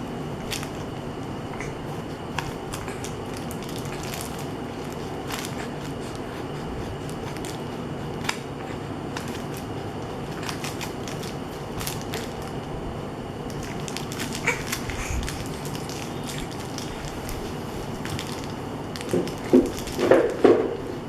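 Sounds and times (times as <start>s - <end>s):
paper envelope crinkling: 0.4s - 0.9s, 1.9s - 8.5s, 9.1s - 12.8s, 13.4s - 20.9s.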